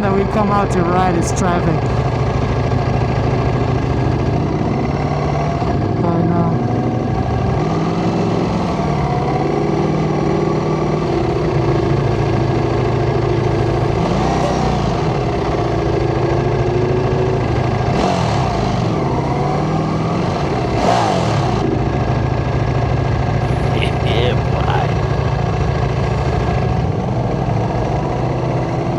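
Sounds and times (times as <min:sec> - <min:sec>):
motorcycle engine at low revs: 0:00.0 - 0:28.9.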